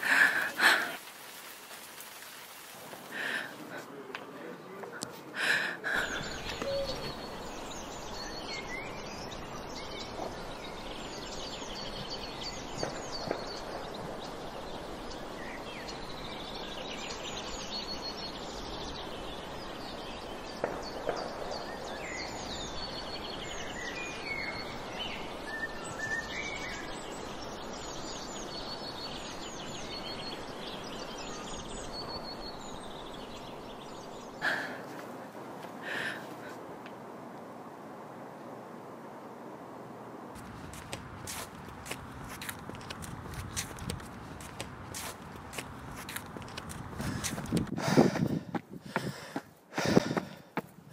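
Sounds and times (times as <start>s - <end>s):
small birds chirping: 0.0s - 36.6s, 40.4s - 50.9s.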